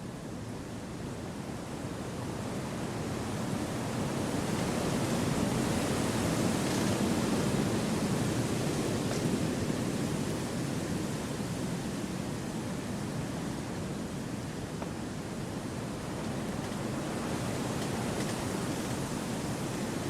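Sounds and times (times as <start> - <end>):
wind through trees: 0.0 - 20.0.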